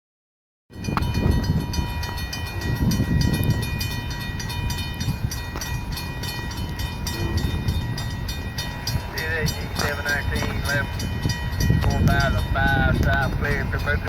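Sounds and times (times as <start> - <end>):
diesel locomotives rumbling: 0.7 - 14.0.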